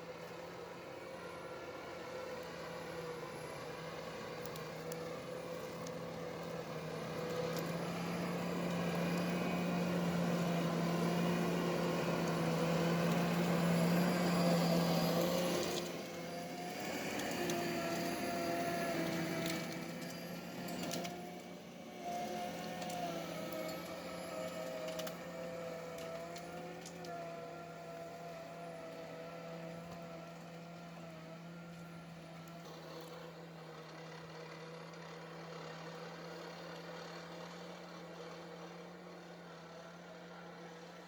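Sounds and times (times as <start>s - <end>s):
forestry harvester engine and hydraulics: 0.0s - 41.0s.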